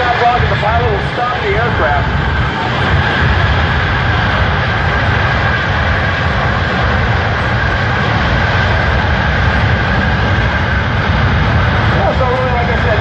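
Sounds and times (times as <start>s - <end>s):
aircraft engine noise: 0.0s - 13.0s.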